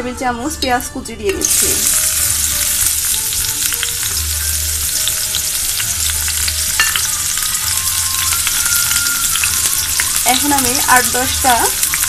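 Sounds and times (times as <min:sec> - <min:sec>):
onions sizzling in hot oil: 0:01.3 - 0:12.0.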